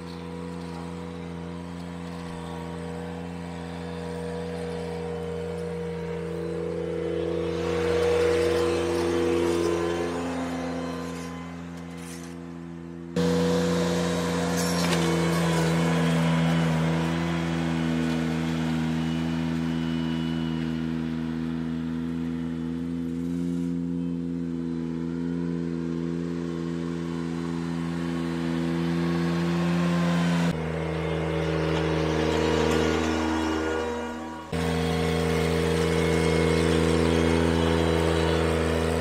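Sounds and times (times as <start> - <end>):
power rake through gravel: 0.0 - 24.2, 24.8 - 39.0
tractor engine running: 0.0 - 39.0.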